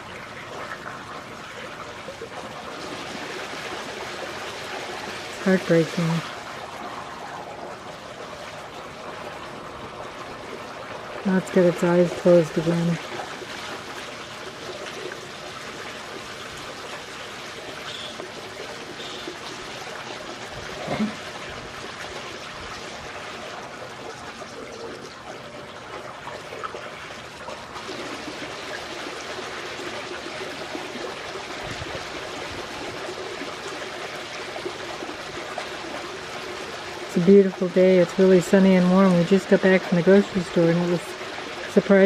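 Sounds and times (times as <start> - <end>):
pool water trickling: 0.0 - 42.0.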